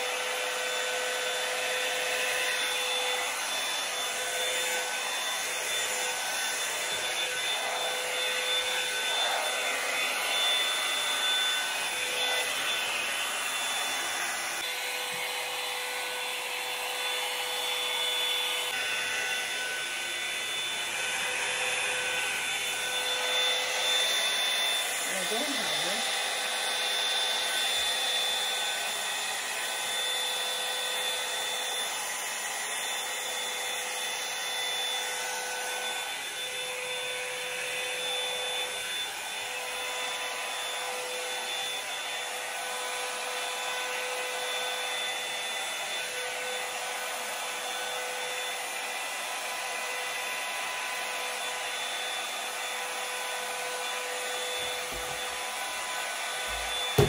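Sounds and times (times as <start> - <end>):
hair dryer brush running: 0.0 - 57.0.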